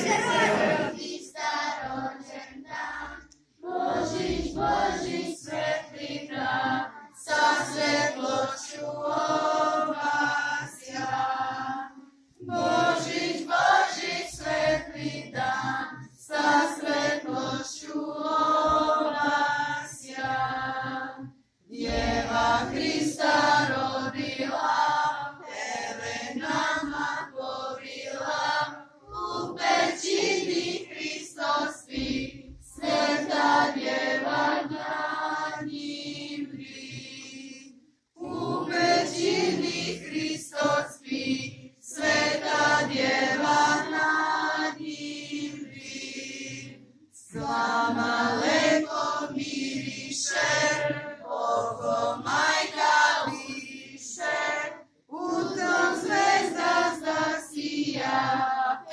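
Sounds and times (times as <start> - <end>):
children and women singing: 0.0 - 58.9.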